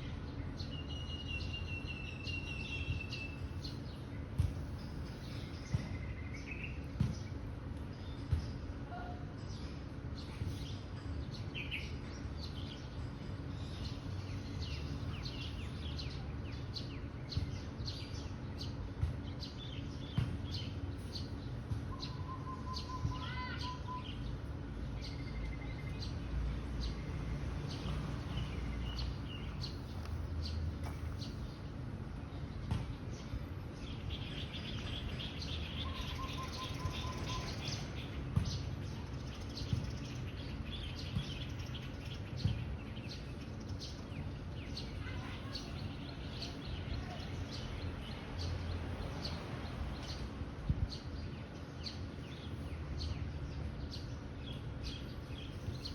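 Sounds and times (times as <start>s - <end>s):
birds chirping and calling: 0.0s - 55.9s
constant low rumble: 0.0s - 55.9s.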